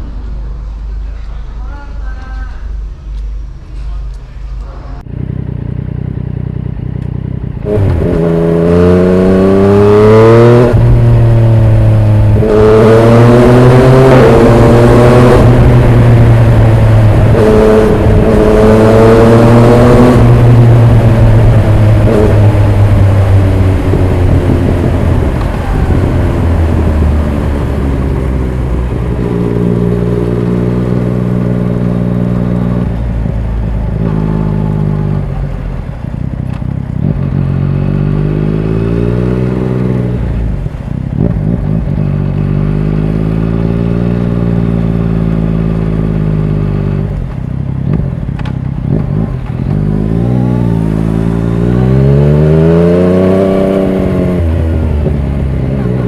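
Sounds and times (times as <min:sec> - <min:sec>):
loud motorcycle engine: 0:00.0 - 0:56.0.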